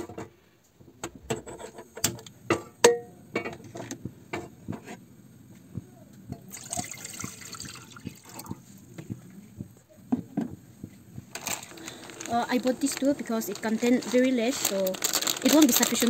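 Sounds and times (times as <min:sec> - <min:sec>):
gas burner hissing: 0:00.0 - 0:16.0.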